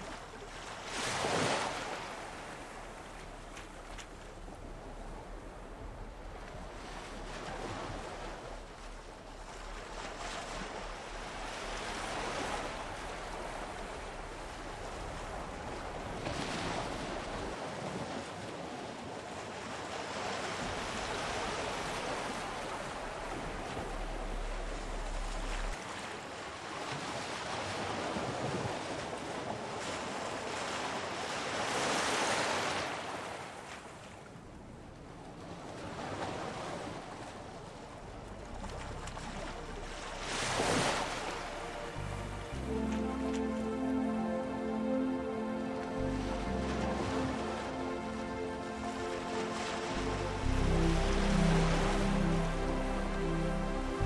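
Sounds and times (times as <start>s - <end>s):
water rushing along boat hull: 0.0s - 54.0s
wind: 0.0s - 54.0s.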